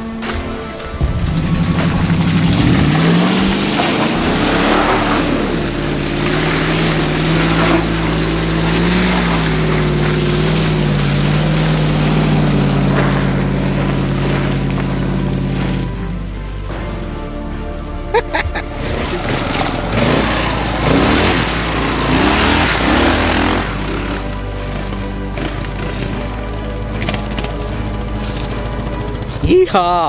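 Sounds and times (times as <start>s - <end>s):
pickup truck engines driving past: 0.0s - 30.0s.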